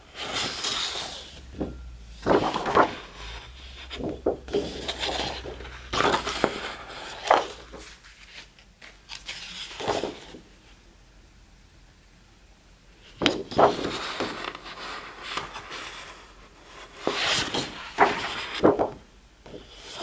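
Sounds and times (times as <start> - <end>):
paper pages rustling: 0.0 - 10.4, 13.1 - 20.0.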